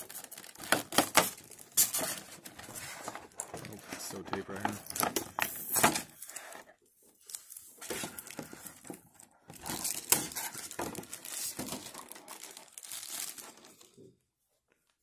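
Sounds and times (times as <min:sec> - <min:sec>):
plastic packaging crinkling: 0:00.0 - 0:06.6, 0:07.2 - 0:14.1.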